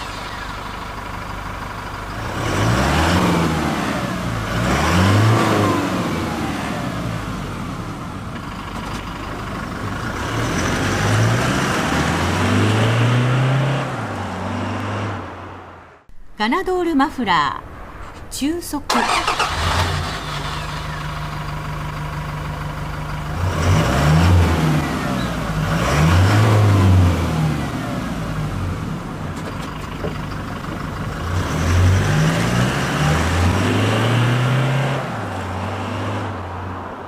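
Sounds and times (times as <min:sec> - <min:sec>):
diesel engine revving: 0:00.0 - 0:16.1, 0:18.9 - 0:37.0.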